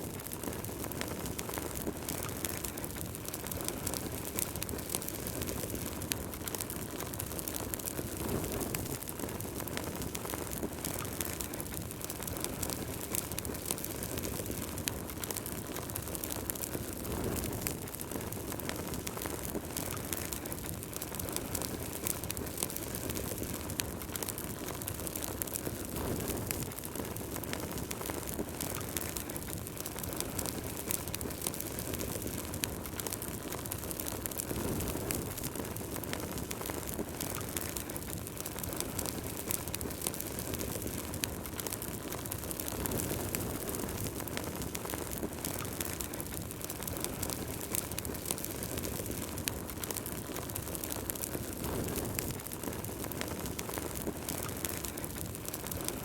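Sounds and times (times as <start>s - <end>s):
burning logs crackling and popping: 0.0s - 56.0s
fire rushing: 0.0s - 56.0s.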